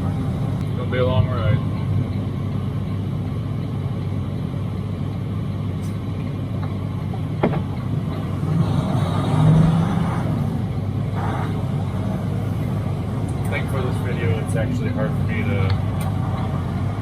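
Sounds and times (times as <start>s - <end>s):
low hum: 0.0s - 17.0s
truck engine and road noise: 0.0s - 17.0s.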